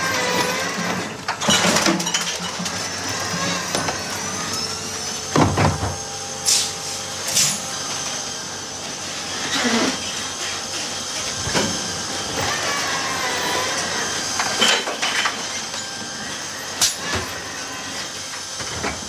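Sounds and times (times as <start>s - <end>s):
electric arm drive whining: 0.0s - 19.0s.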